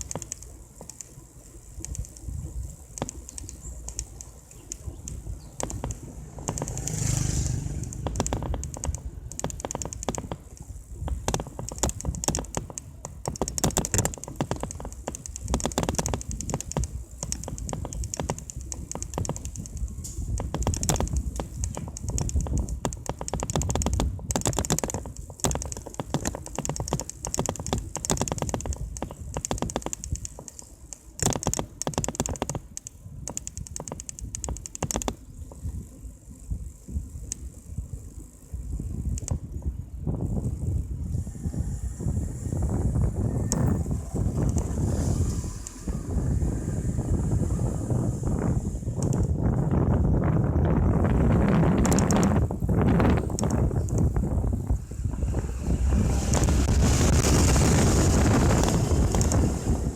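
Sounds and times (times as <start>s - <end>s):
bike clicking and rattling: 0.0s - 59.9s
wind rumble on microphone: 0.0s - 59.9s.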